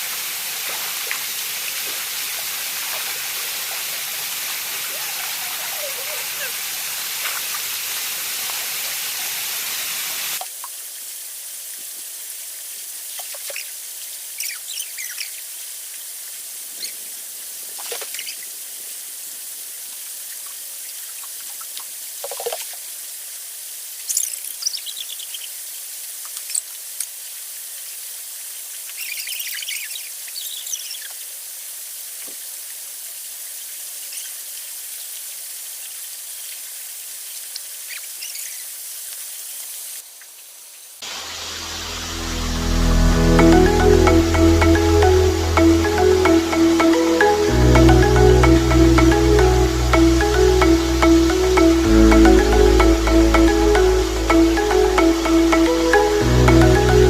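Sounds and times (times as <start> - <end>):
rushing water hiss: 0.0 - 57.0.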